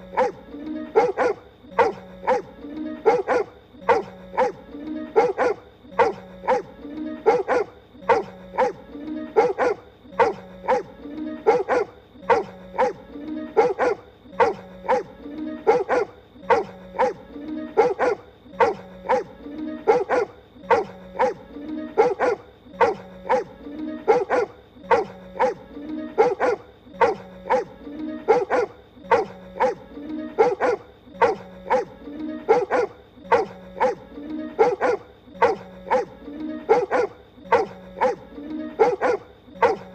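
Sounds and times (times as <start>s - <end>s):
background music: 0.0s - 39.9s.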